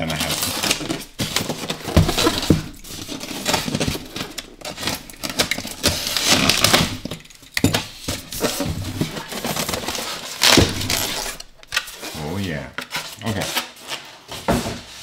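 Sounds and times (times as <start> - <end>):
styrofoam rubbing and creaking: 0.0 - 15.0.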